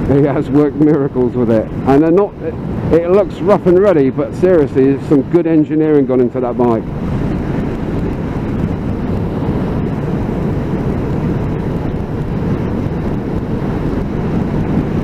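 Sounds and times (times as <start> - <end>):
motorcycle engine rumble: 0.0 - 15.0
wind noise in helmet: 0.0 - 15.0.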